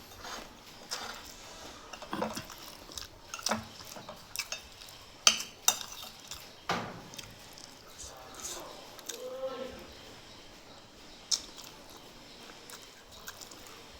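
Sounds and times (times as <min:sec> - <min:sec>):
utensils clinking against a dish: 0:00.0 - 0:13.9.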